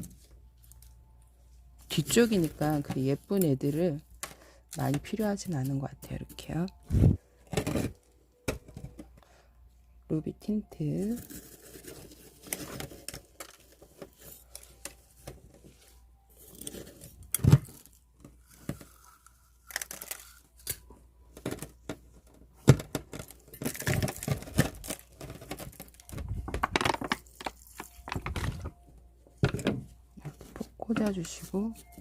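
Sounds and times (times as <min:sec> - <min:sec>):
rustling and crinkling: 0:00.0 - 0:09.2, 0:11.0 - 0:32.0.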